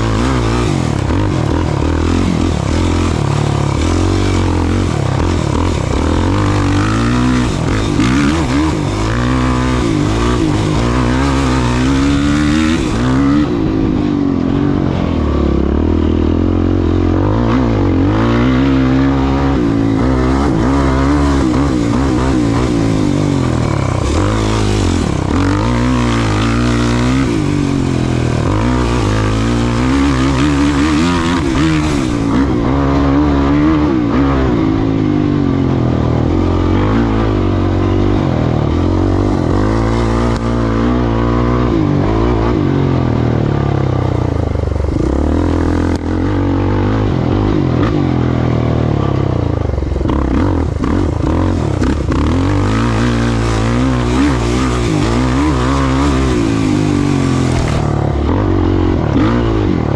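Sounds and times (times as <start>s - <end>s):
race vehicle engine revving: 0.0s - 59.9s.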